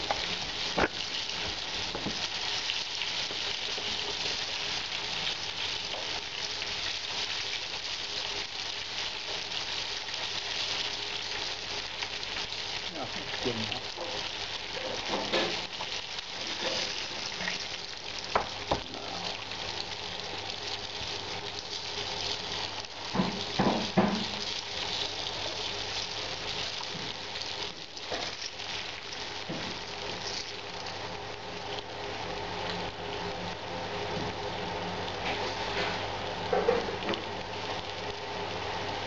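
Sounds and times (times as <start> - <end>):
meat sizzling in hot oil: 0.0 - 39.0.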